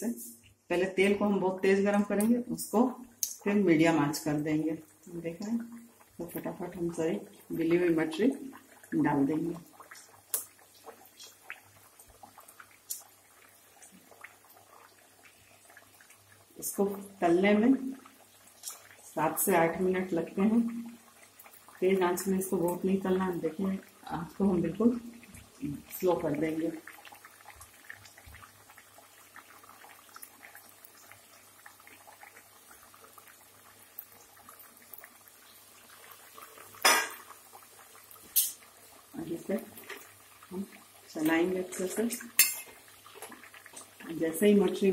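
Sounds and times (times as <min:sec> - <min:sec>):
hot oil sizzling: 0:02.7 - 0:44.9
crackles and pops: 0:03.0 - 0:03.5, 0:04.8 - 0:07.7, 0:08.4 - 0:17.2, 0:17.8 - 0:44.9.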